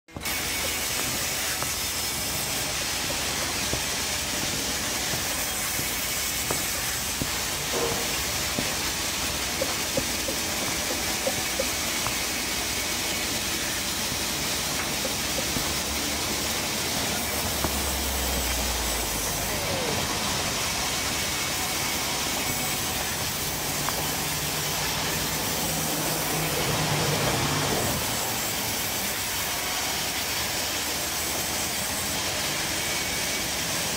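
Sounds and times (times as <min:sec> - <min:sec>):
band saw ripping a log: 0:00.1 - 0:30.4.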